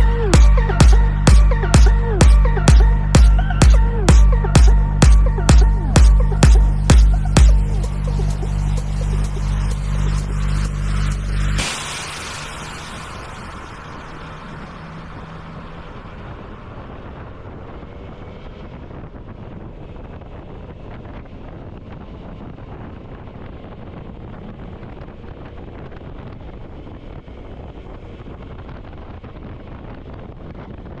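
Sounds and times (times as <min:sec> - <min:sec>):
motorcycle engine cruising: 0:00.0 - 0:31.0
wind rushing over microphone: 0:00.0 - 0:31.0.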